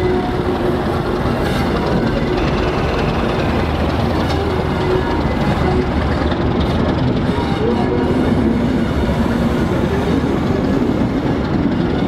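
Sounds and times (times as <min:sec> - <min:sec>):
train wheels rumbling on rails: 0:00.0 - 0:12.0
low diesel engine hum: 0:00.1 - 0:12.0.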